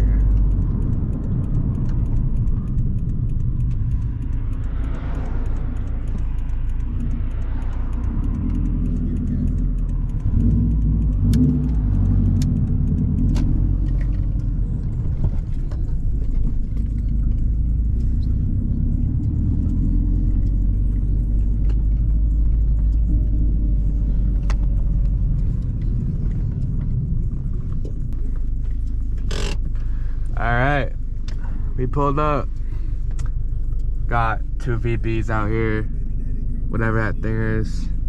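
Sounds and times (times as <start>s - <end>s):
faint clicks: 0.0s - 35.2s
car engine rumble: 0.0s - 38.0s.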